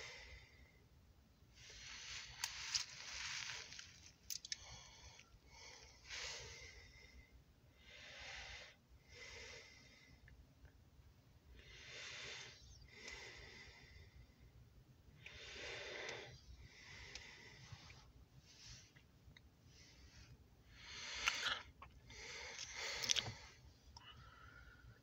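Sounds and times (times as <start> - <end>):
person breathing softly: 0.0 - 0.9, 1.5 - 10.3, 11.5 - 25.0
faint low rumble: 0.0 - 25.0.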